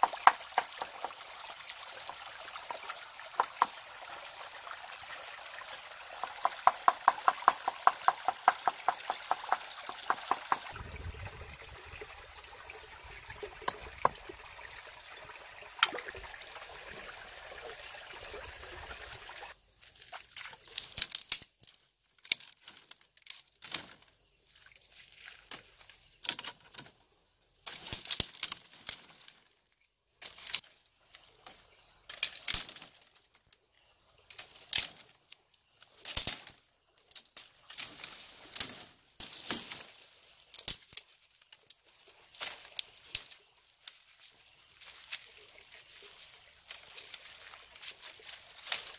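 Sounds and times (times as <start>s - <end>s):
stream trickling over rocks: 0.0s - 27.0s, 27.6s - 48.9s.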